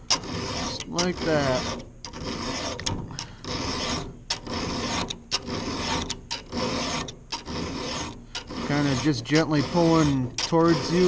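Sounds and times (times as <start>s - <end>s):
file scraping saw chain: 0.0s - 11.0s.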